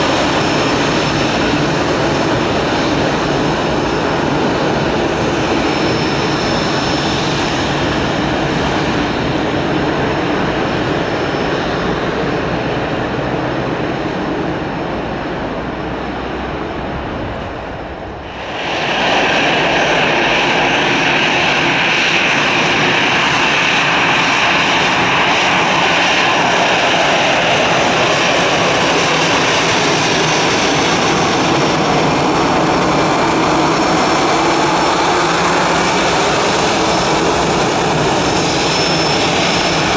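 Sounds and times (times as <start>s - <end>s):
high-pitched jet whine: 0.0s - 13.0s, 13.7s - 39.9s
jet engines rumbling with whine: 0.0s - 39.9s.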